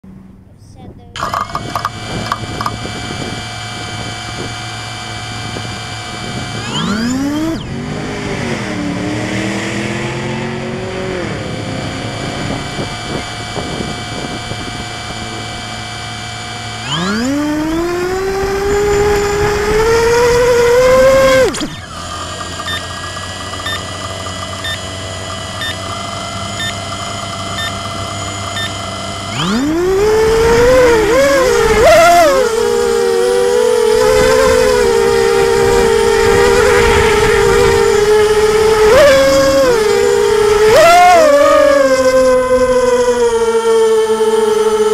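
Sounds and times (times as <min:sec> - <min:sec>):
quadcopter motors whining: 0:01.0 - 0:44.9.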